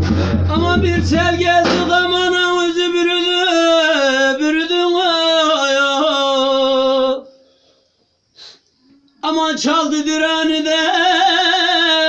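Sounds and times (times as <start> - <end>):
man singing long held notes: 0.0 - 7.4, 9.2 - 12.0.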